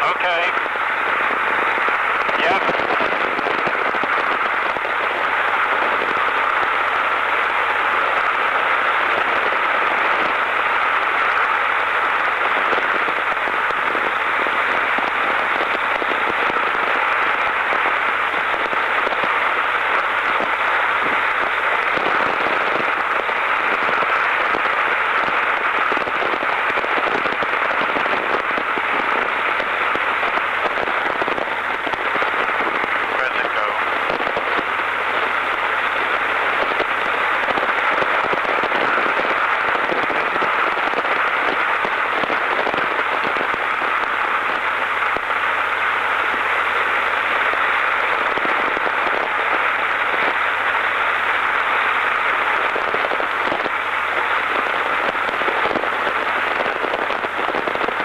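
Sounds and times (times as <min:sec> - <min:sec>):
radio hiss and crackle: 0:00.0 - 0:58.0.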